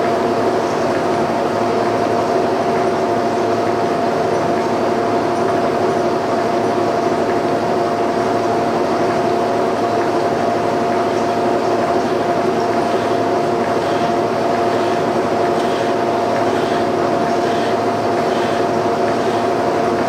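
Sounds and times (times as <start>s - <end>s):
line-boring machine drone and whine: 0.0s - 20.0s.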